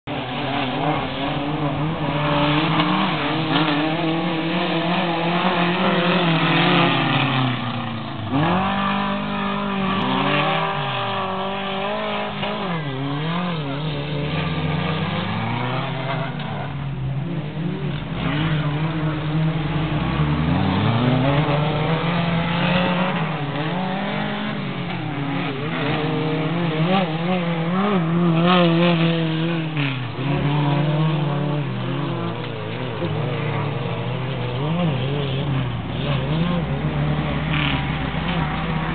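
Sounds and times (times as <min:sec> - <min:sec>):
race truck engines revving: 0:00.0 - 0:38.9.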